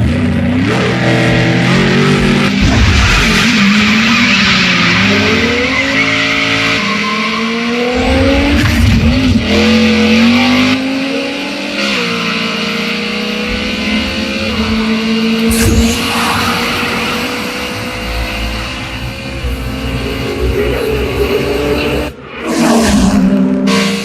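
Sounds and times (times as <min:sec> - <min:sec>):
racing car engines at full throttle: 0:00.0 - 0:24.0.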